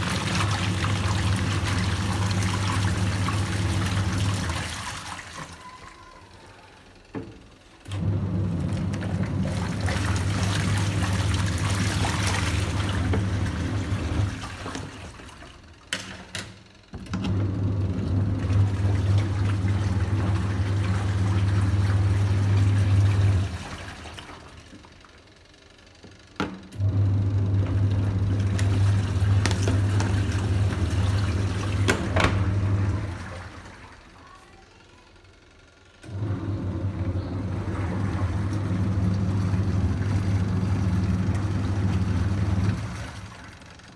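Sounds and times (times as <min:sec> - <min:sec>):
water sloshing in tub: 0:00.0 - 0:06.8, 0:07.9 - 0:16.4, 0:17.2 - 0:25.3, 0:27.6 - 0:34.6, 0:36.0 - 0:43.9
washing machine motor humming: 0:00.0 - 0:43.9.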